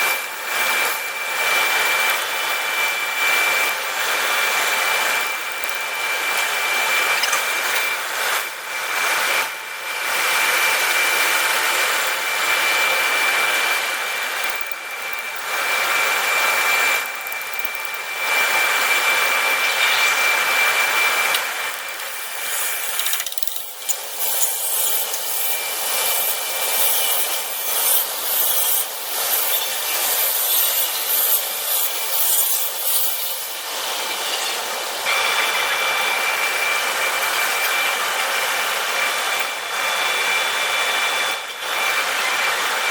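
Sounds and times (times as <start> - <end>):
power tool whining: 0.0 - 42.9.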